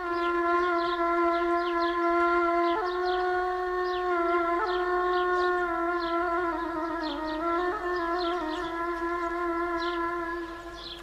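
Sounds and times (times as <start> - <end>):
wind instrument sustained notes: 0.0 - 11.0.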